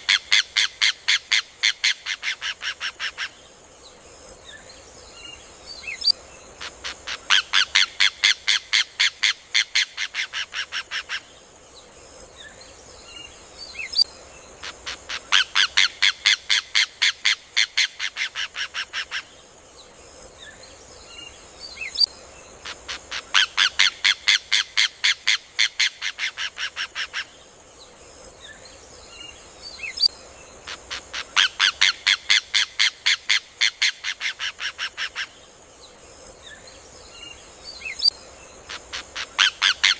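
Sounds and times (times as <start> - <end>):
steady high hiss: 0.0 - 39.9.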